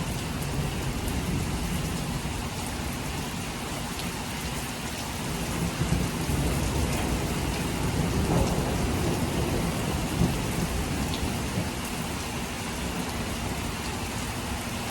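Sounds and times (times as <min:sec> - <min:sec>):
heavy rain pouring: 0:00.0 - 0:14.9
low rumble of thunder: 0:00.0 - 0:14.9.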